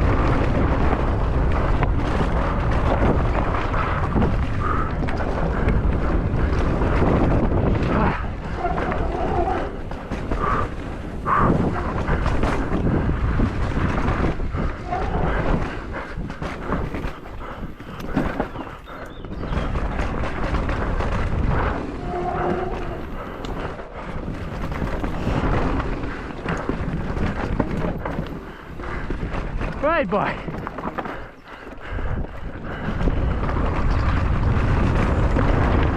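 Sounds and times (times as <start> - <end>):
bike rattling over rough ground: 0.0 - 35.9
constant rumble: 0.0 - 35.9
wind buffeting microphone: 0.0 - 35.9.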